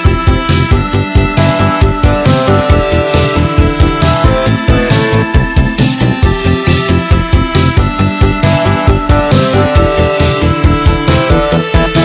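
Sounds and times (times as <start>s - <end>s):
upbeat music with fast beat: 0.0s - 12.0s.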